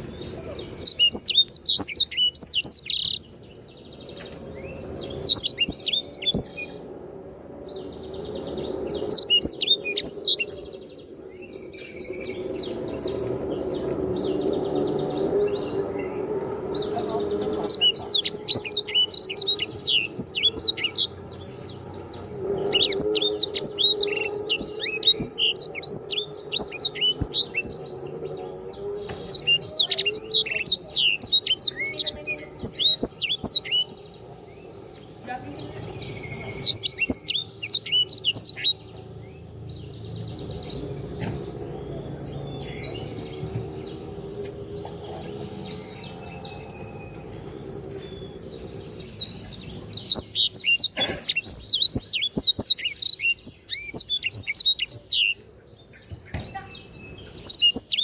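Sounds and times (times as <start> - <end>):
songbird singing trills: 0.0 - 58.0.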